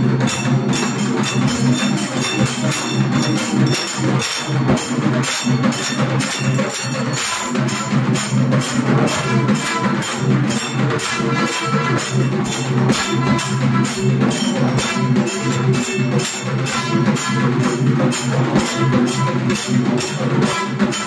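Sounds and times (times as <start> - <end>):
drums beating fast: 0.0 - 21.0
ringing metal struck: 0.0 - 21.0.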